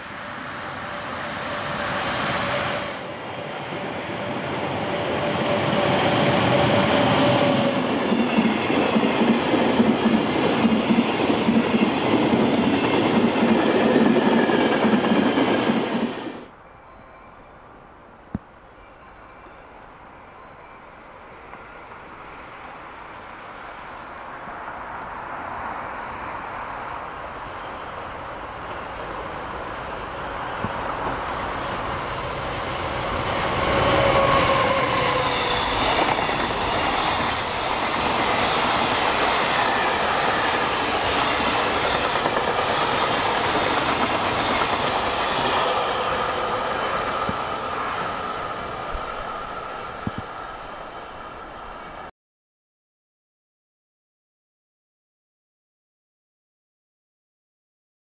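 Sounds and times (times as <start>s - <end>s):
electric locomotive passing: 0.0s - 18.1s, 18.7s - 52.1s.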